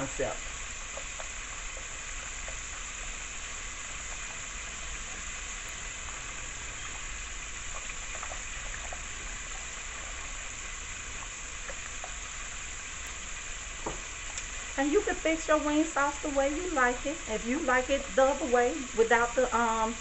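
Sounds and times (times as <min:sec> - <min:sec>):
deep-frying sizzle with pops: 0:00.0 - 0:20.0.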